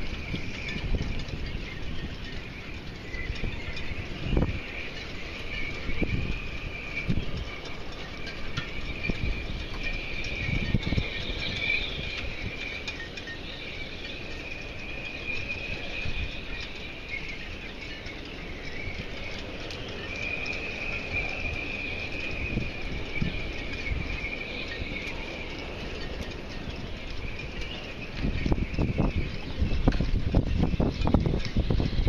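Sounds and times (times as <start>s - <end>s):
high-pitched insect chorus: 0.0s - 32.0s
wind rumbling on microphone: 0.0s - 32.0s.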